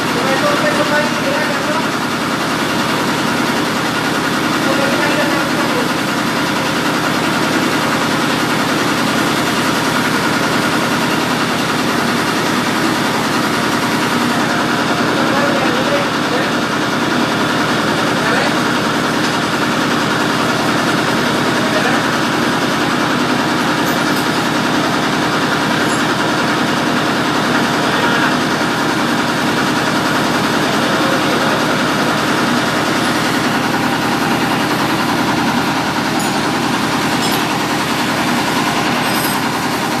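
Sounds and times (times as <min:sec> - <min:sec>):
diesel engine running steadily: 0:00.0 - 0:40.0.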